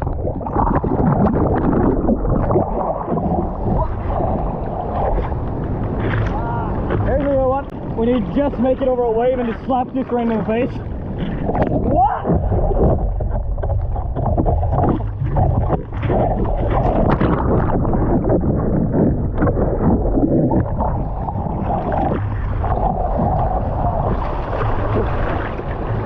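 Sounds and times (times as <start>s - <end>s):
sea water splashing: 0.0s - 26.0s
wind buffeting microphone: 0.0s - 26.0s.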